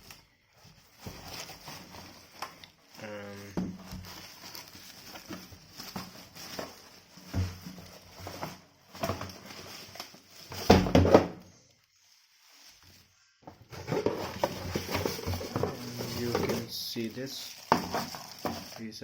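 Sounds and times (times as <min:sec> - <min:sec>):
cardboard box rustling: 0:00.0 - 0:02.6, 0:03.7 - 0:11.3, 0:13.6 - 0:19.0.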